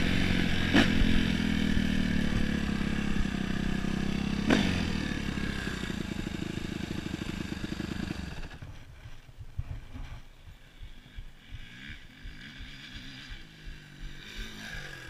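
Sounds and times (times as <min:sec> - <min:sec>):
dirt bike engine slowing: 0:00.0 - 0:15.0.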